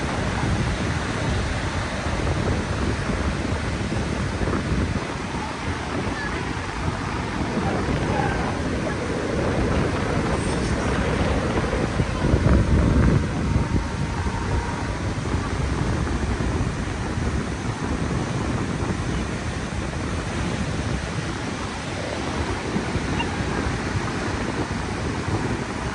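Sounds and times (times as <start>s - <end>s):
sea surf breaking: 0.0s - 25.9s
wind rumbling on microphone: 0.0s - 25.9s.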